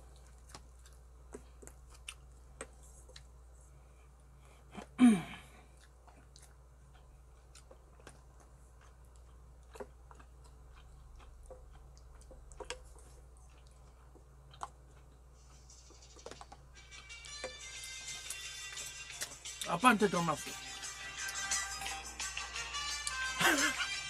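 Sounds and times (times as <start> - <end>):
faint chewing: 0.0 - 19.7, 20.8 - 24.0.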